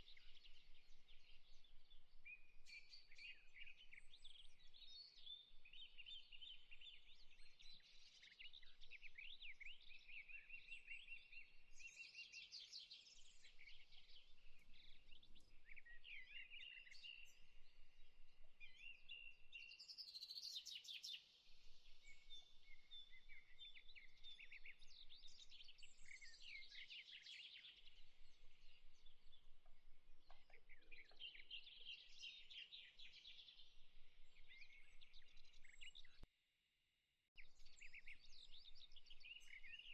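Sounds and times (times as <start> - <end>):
small birds chirping and trilling: 0.0 - 36.3, 37.5 - 39.9.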